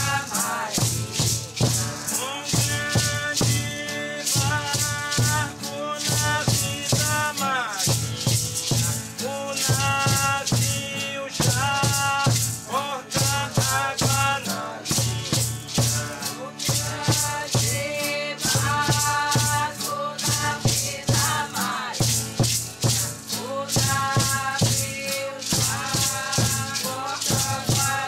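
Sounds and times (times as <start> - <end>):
hand rattles shaken: 0.0 - 28.0
voices singing: 0.0 - 28.0.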